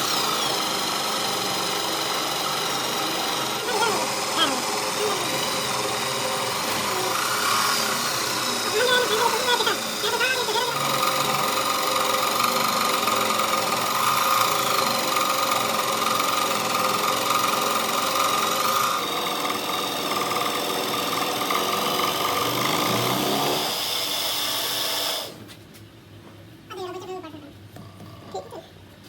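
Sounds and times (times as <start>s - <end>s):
machine whining: 0.0s - 25.4s.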